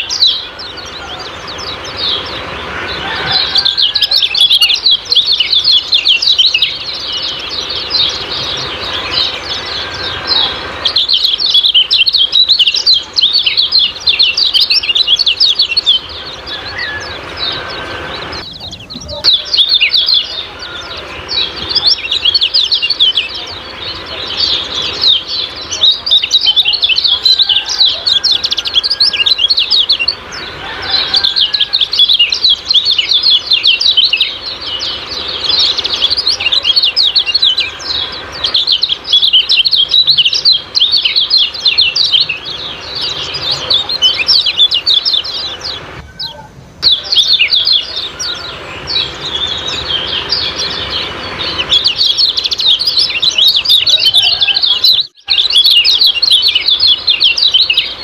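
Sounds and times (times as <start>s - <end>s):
songbirds chirping rapidly: 0.0s - 58.0s.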